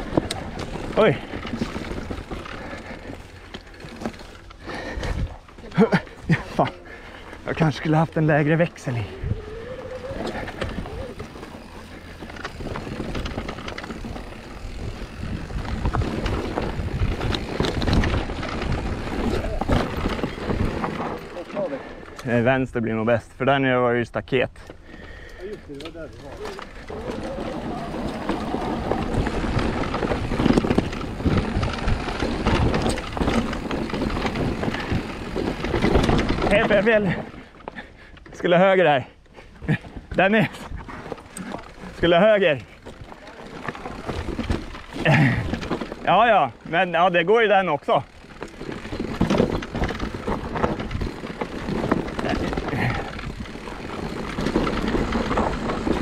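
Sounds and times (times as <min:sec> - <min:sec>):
bike rattling: 0:00.0 - 0:56.0
bike tyres on dirt: 0:00.0 - 0:56.0.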